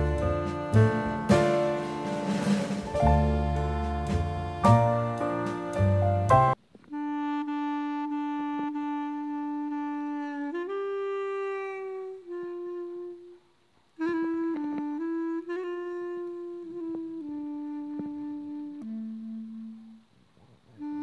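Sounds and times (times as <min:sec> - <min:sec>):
slow solo melody: 0:00.0 - 0:13.4, 0:14.0 - 0:20.0.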